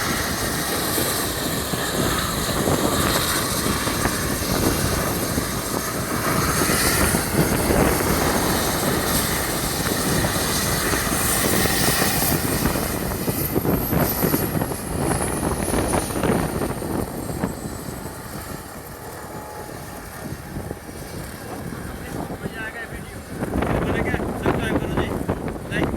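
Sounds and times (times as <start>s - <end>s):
helicopter rotor and turbine: 0.0s - 25.9s.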